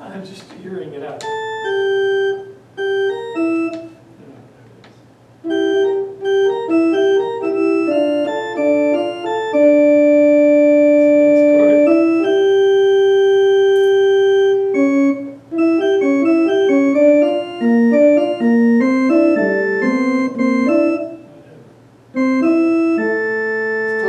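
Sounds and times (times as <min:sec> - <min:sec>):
electronic organ playing: 0:00.9 - 0:04.2, 0:05.3 - 0:24.0.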